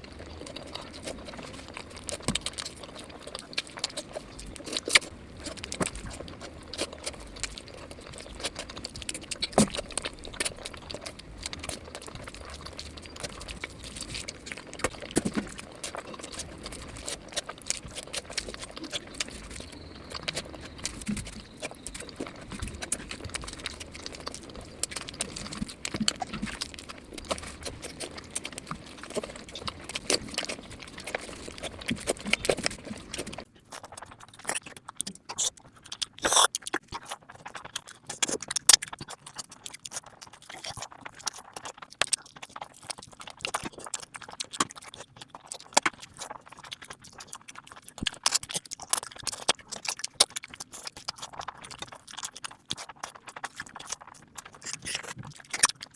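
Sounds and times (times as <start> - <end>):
wet mouth clicks and chewing: 0.0 - 55.9.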